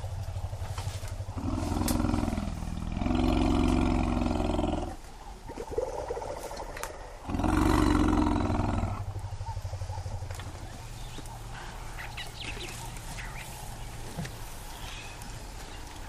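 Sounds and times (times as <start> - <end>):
low elephant rumble: 0.0 - 16.0.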